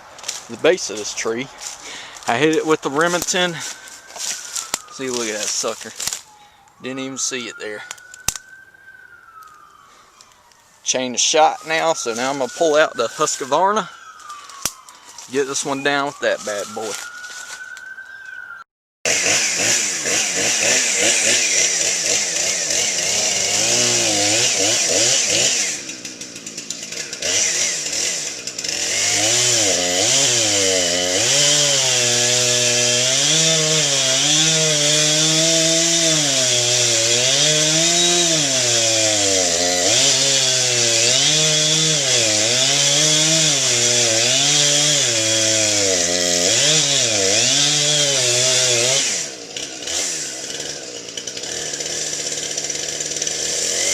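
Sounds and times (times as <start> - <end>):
chainsaw cutting wood: 0.0 - 6.4, 11.4 - 17.8, 19.1 - 53.9.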